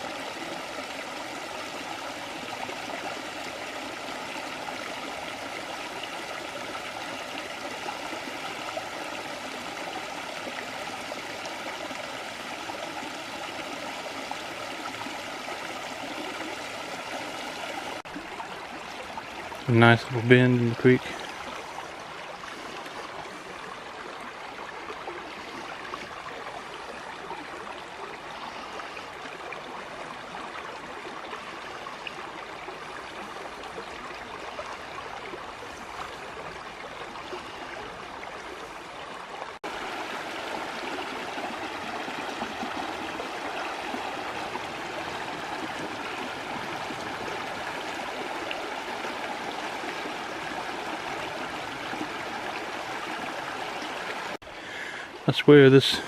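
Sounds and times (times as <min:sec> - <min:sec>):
creek water over rocks: 0:00.0 - 0:56.0.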